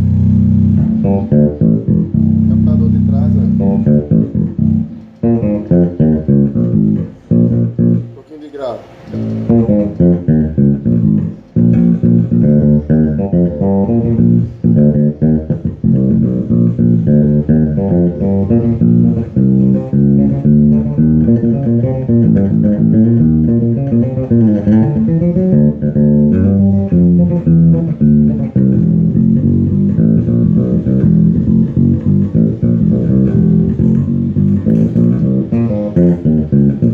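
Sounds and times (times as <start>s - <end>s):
electric bass guitar plucked notes: 0.0s - 8.2s, 9.1s - 36.9s.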